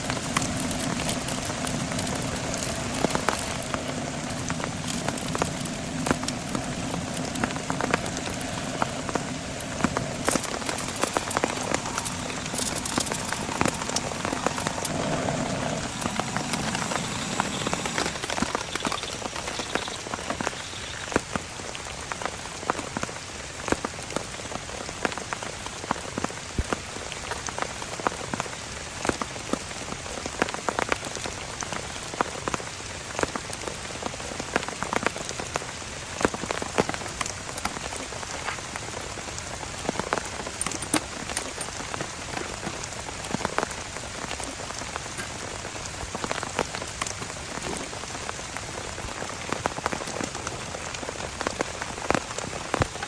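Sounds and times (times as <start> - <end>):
heavy rain hiss: 0.0 - 53.0
raindrops tapping close by: 0.0 - 53.0.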